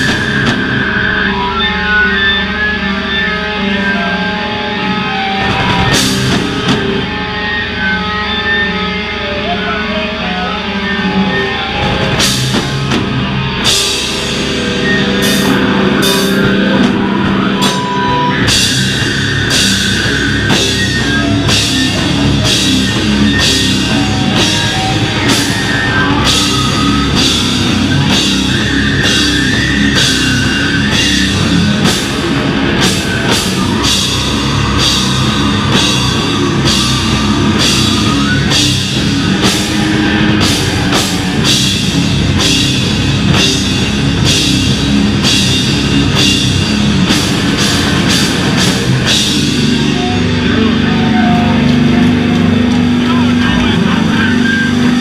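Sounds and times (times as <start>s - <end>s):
drum kit: 0.0s - 2.6s, 5.1s - 8.0s, 11.5s - 55.0s
bass guitar: 0.0s - 55.0s
heavy distorted electric guitar: 0.0s - 55.0s.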